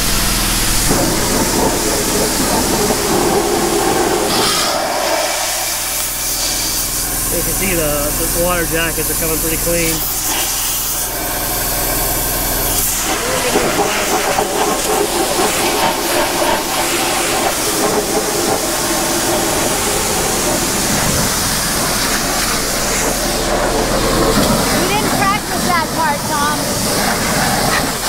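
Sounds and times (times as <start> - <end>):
pressure washer spraying metal: 0.0 - 28.0.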